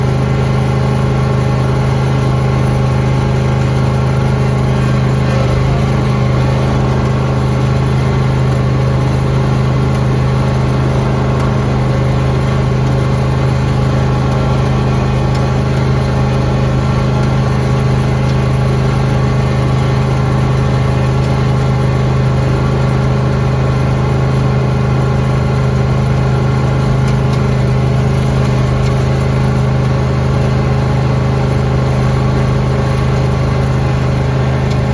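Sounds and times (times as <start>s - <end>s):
lawn tractor engine running: 0.0s - 34.9s.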